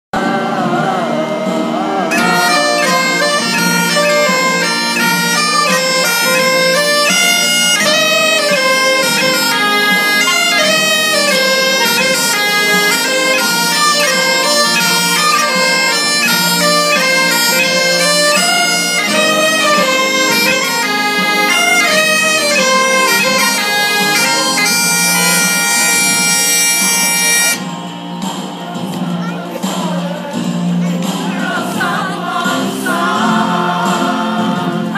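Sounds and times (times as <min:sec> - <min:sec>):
bagpipes playing a tune: 0:00.2 - 0:28.2.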